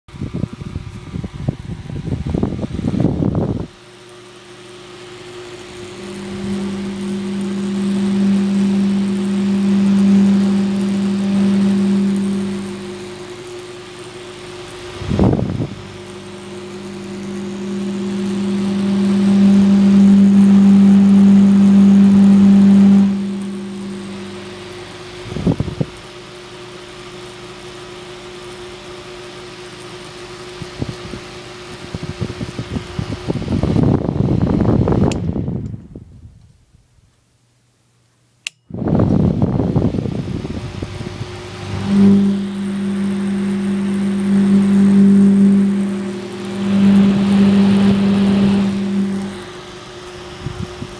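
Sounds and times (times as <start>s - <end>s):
electric fan motor humming: 0.1s - 37.1s, 38.1s - 50.9s.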